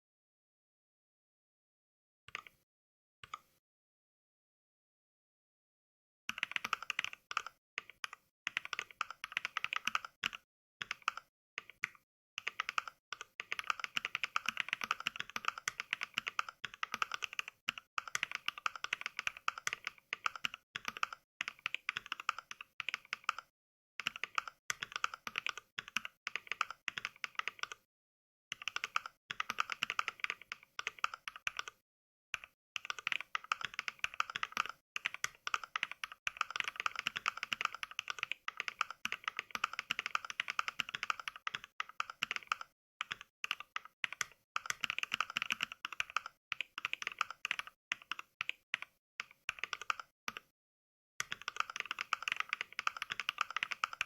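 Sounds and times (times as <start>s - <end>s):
mechanical keyboard typing clacks: 6.3s - 27.8s, 28.5s - 31.8s, 32.4s - 50.5s, 51.2s - 54.0s.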